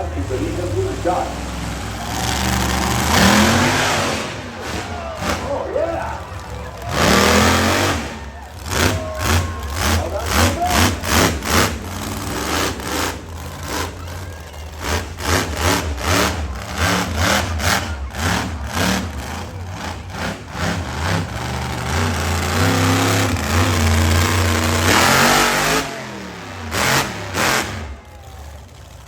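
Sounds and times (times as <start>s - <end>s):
monster truck engine revving: 0.0s - 29.0s.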